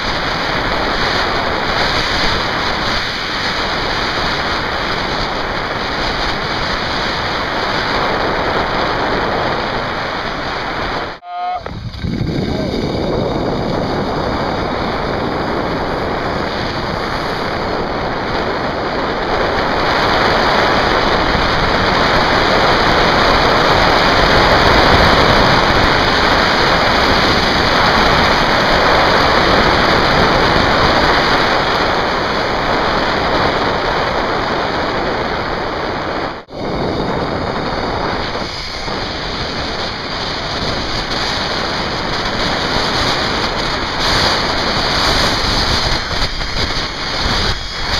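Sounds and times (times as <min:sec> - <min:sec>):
wind rushing over microphone: 0:00.0 - 0:47.9
zipline trolley running on cable: 0:00.0 - 0:47.9.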